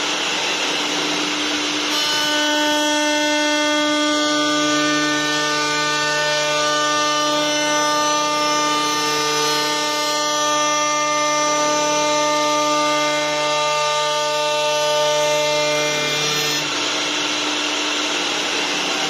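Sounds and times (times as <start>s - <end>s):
router spindles whining: 0.0s - 19.0s.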